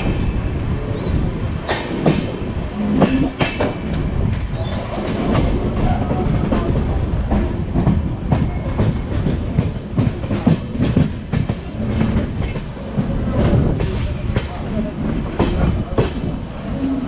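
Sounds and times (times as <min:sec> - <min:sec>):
train coach rumbling: 0:00.0 - 0:17.0
wheels clacking over rail joints: 0:01.6 - 0:17.0.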